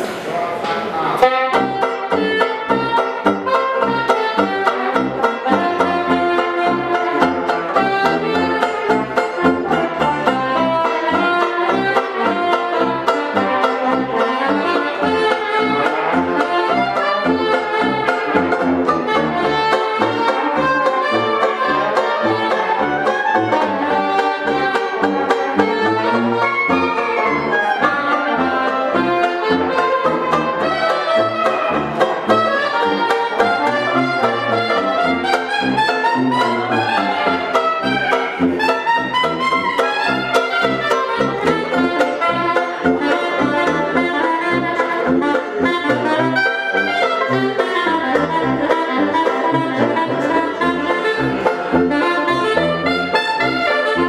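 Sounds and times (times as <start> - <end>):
upbeat hot jazz band music: 0.0 - 54.0.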